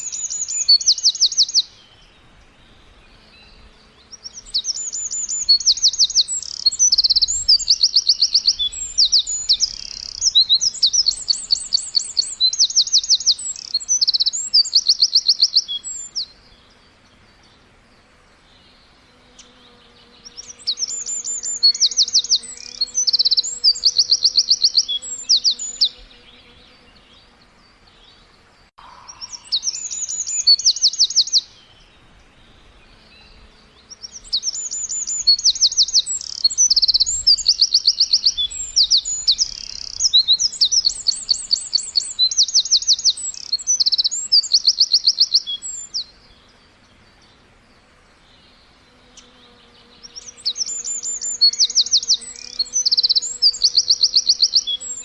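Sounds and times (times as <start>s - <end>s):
songbirds chirping trills: 0.0s - 55.0s.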